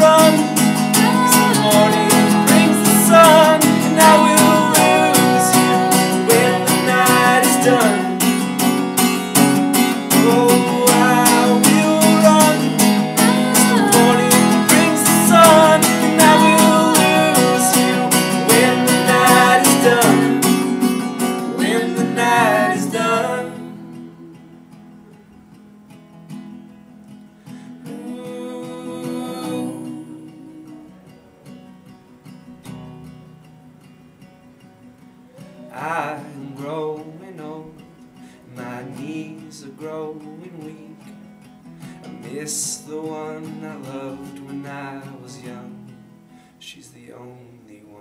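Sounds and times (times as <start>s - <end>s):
strummed acoustic guitar: 0.0s - 46.7s.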